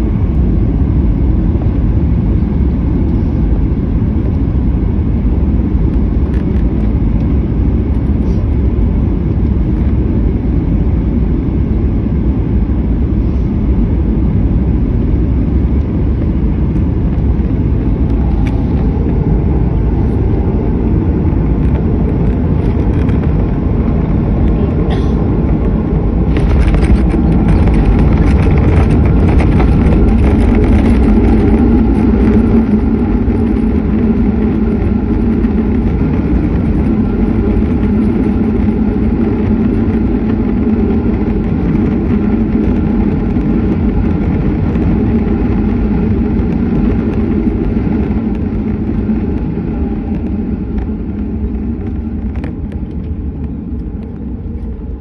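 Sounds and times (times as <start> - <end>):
airplane landing rumble: 0.0 - 55.0.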